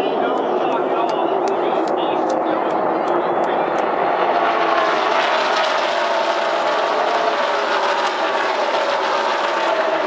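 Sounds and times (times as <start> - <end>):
race cars passing at speed: 0.0 - 10.0.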